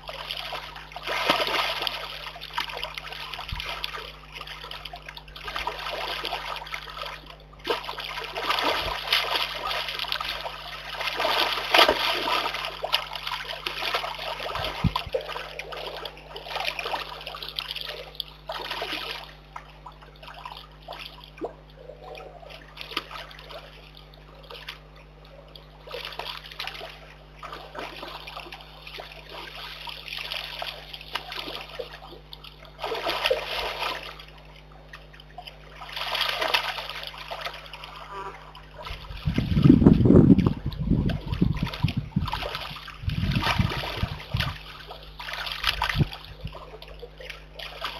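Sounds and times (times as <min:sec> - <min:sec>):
animal splashing in muddy water: 0:00.0 - 0:47.9.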